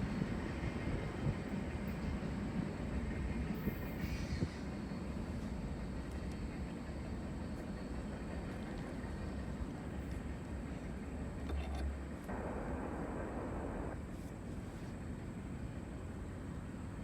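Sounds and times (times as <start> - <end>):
freight train low rumble: 0.0 - 17.0.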